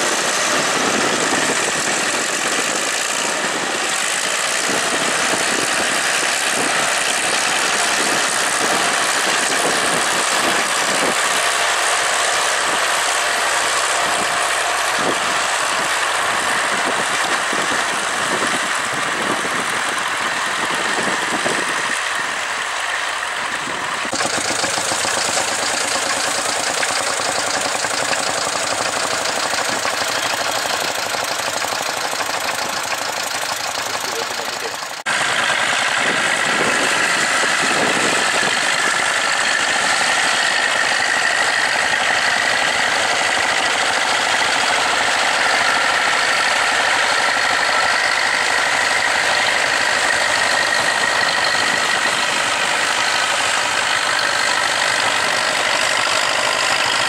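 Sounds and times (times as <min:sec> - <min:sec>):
smaller tractor engine: 0:00.0 - 0:57.0
tractor diesel engine under load: 0:00.0 - 0:57.0.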